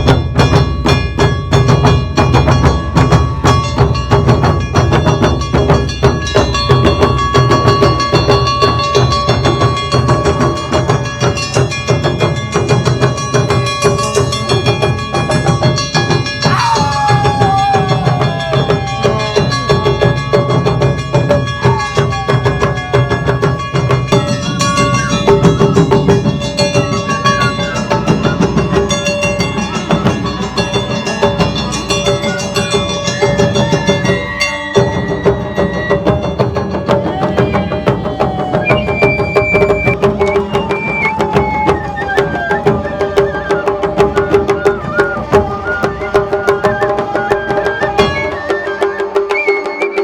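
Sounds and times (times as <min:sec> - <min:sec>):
rapid dense drumming: 0:00.0 - 0:48.4
sustained melody: 0:00.8 - 0:49.3.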